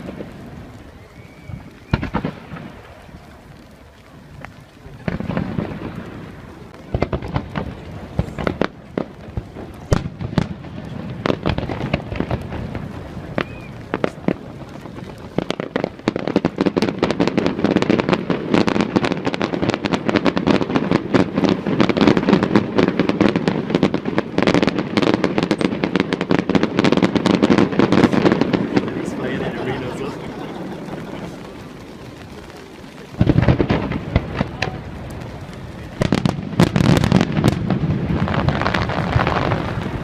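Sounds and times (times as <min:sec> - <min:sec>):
fireworks bangs and crackle: 0:00.0 - 0:40.0.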